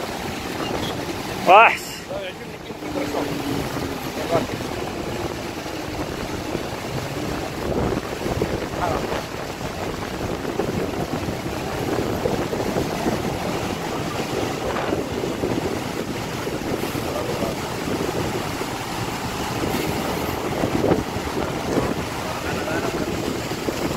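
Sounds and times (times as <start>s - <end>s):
floodwater rushing: 0.0s - 23.9s
wind buffeting microphone: 0.0s - 23.9s.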